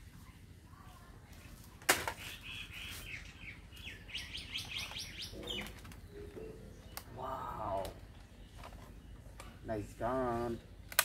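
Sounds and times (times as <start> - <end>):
small bird chirping: 0.1 - 11.0.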